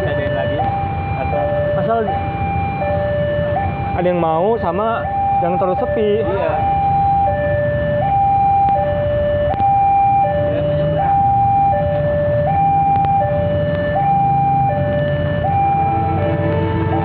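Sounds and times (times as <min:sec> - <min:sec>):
two-tone hi-lo siren: 0:00.0 - 0:17.0.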